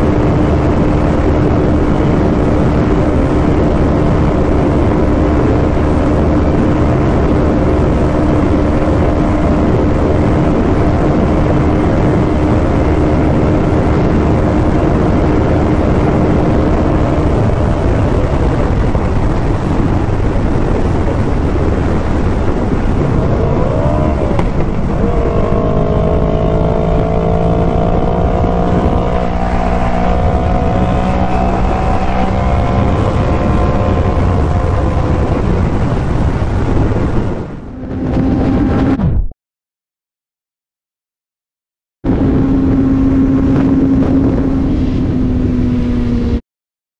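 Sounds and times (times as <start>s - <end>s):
motorcycle engine drone: 0.0s - 39.3s, 42.0s - 46.4s
wind rush: 0.0s - 39.3s, 42.0s - 46.4s.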